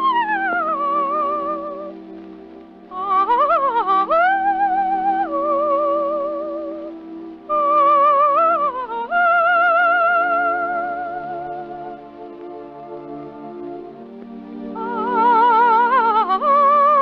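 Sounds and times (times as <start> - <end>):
soprano singing vocalise: 0.0 - 17.0
sustained orchestral chord: 0.0 - 17.0.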